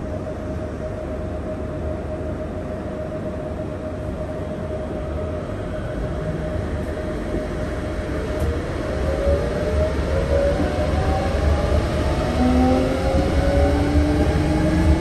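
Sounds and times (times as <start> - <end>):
steady tone: 0.0 - 15.0
train motor whine: 0.0 - 15.0
train rumble: 0.0 - 15.0.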